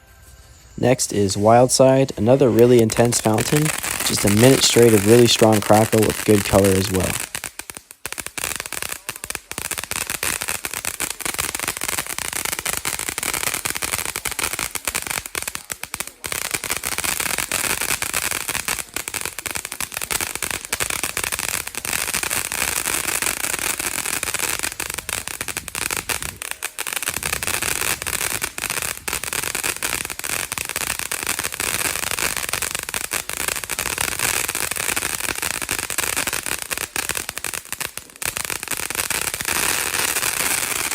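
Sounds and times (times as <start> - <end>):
firework hiss: 0.0 - 40.9
fountain firework crackling: 0.0 - 40.9.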